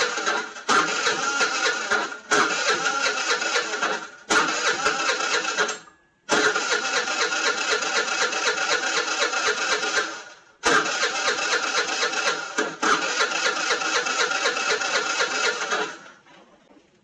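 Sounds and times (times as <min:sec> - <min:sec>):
scooter starter cranking engine: 0:00.0 - 0:16.2.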